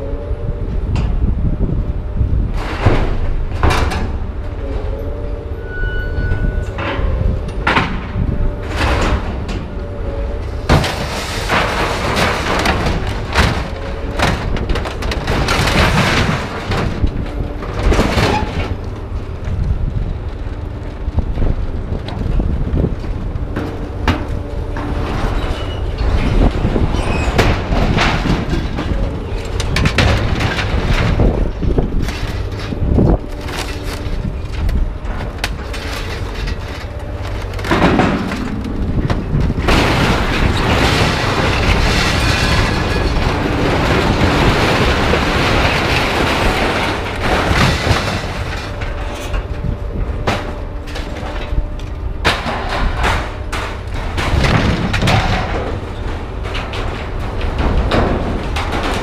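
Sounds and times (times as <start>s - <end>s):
steady engine hum: 0.0s - 5.7s, 6.6s - 59.0s
metal clanking and banging: 2.2s - 59.0s.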